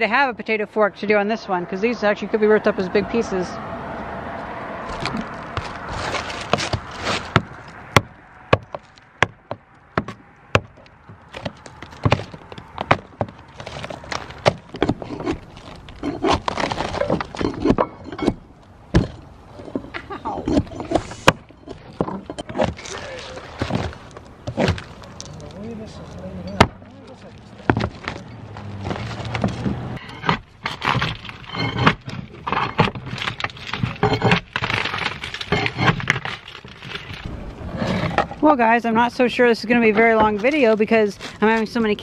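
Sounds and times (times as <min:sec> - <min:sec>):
shingles scraping and crunching: 0:04.8 - 0:42.0.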